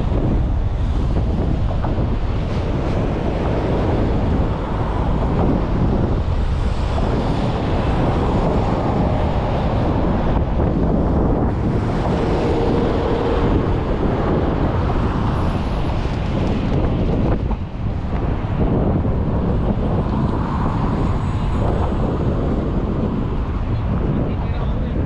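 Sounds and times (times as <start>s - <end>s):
road traffic hum: 0.0s - 25.0s
wind buffeting microphone: 0.0s - 25.0s.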